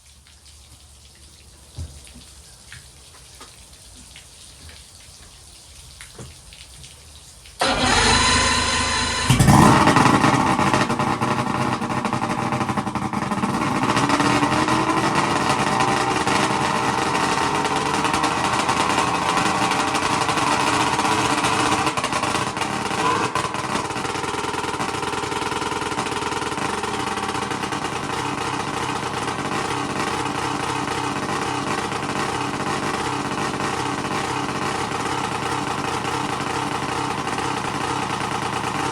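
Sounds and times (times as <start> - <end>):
electric starter cranking: 7.6 - 38.9
outboard motor running: 7.6 - 38.9.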